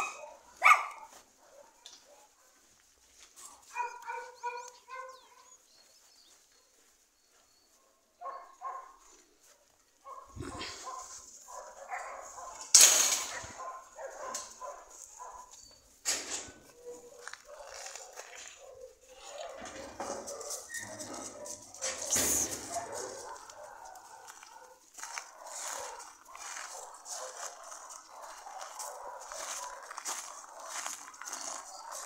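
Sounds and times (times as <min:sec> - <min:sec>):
dogs barking: 0:00.0 - 0:02.7, 0:03.4 - 0:05.7, 0:07.7 - 0:09.2, 0:10.0 - 0:32.0.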